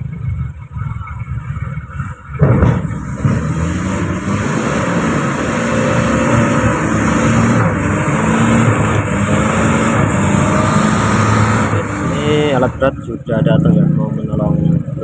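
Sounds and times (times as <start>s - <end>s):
road and tyre noise: 0.0s - 15.0s
truck engine drone: 0.0s - 15.0s.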